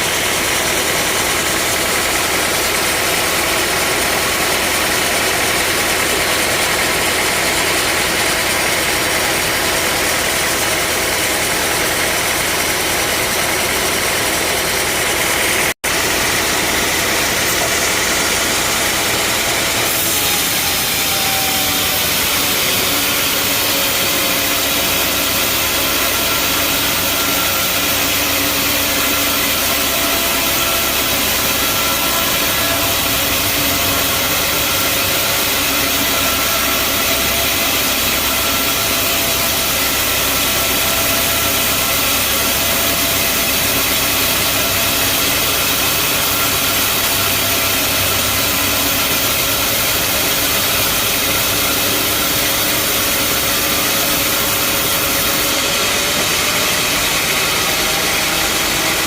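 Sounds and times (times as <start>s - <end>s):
band sawmill sawing a log: 0.0s - 59.0s.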